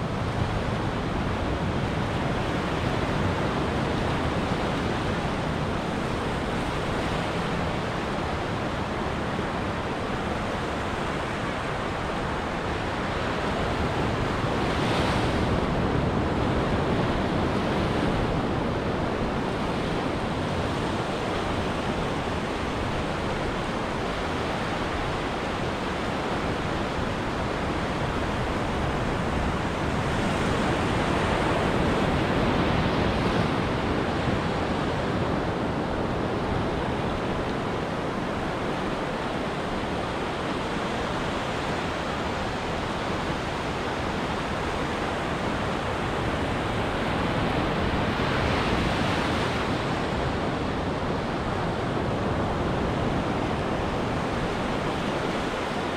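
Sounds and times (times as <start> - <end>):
ocean surf breaking on beach: 0.0 - 55.9.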